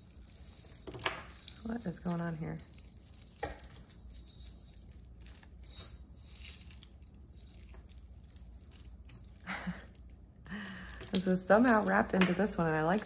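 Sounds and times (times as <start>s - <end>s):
beads and chain clinking: 0.0s - 13.0s.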